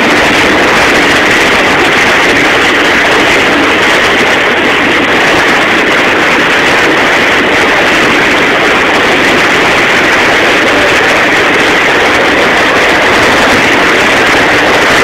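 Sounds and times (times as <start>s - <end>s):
boat motor running: 0.0s - 15.0s
boat wake churning: 0.0s - 15.0s.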